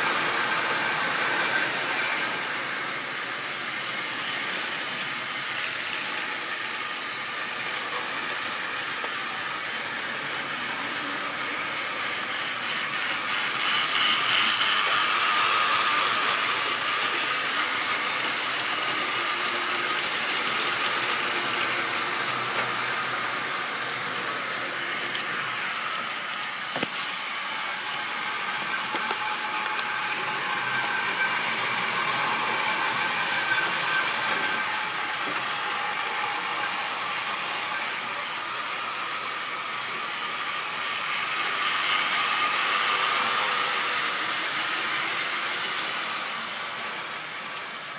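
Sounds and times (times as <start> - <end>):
model train motors whining: 0.0 - 47.9
wheels whirring on track: 0.0 - 47.9.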